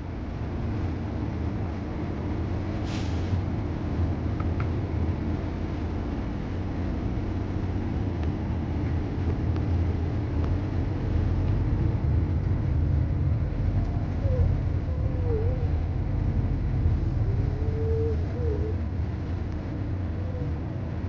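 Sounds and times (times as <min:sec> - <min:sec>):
ship engines low rumble: 0:00.0 - 0:21.0.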